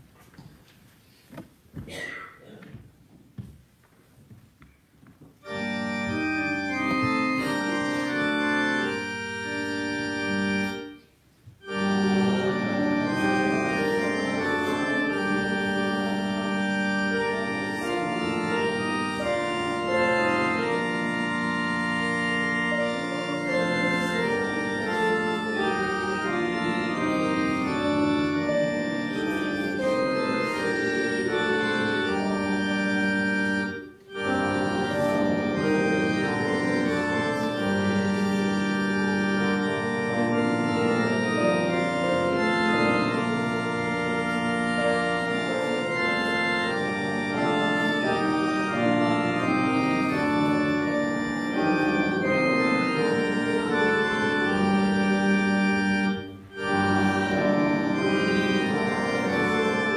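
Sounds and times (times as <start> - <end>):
church organ playing a hymn: 5.3 - 59.9.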